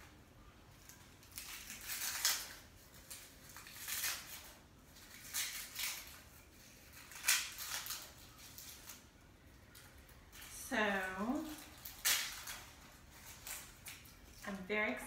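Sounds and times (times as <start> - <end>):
plastic bag crinkling: 0.7 - 15.0.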